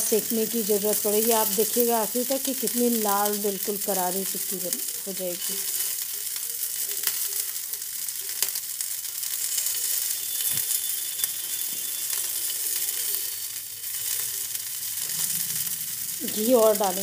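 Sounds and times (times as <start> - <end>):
patties sizzling in ghee: 0.0 - 17.0.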